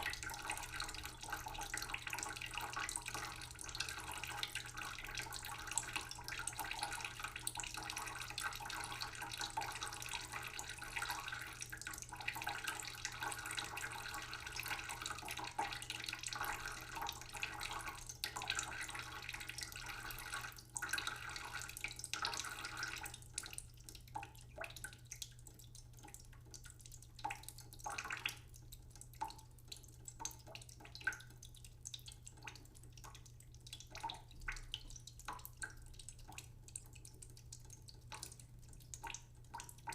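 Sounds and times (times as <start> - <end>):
tap water splashing into sink: 0.0 - 39.9
water dripping: 0.0 - 39.9.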